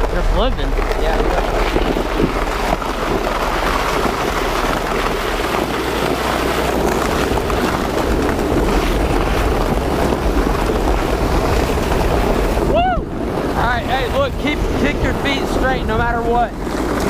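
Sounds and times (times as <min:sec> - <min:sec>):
sled scraping over snow: 0:00.0 - 0:17.0
wind buffeting microphone: 0:00.0 - 0:17.0.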